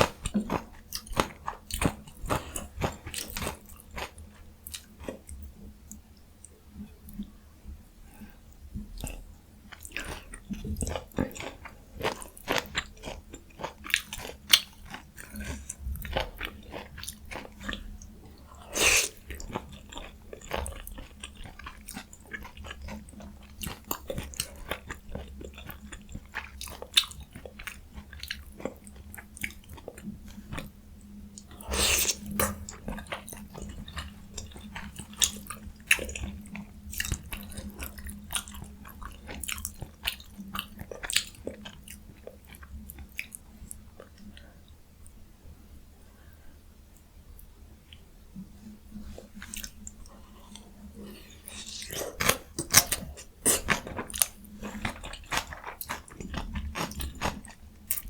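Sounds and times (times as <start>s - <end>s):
wet chewing with crunches: 0.0s - 5.4s, 9.0s - 30.7s, 31.3s - 44.3s, 49.1s - 58.0s.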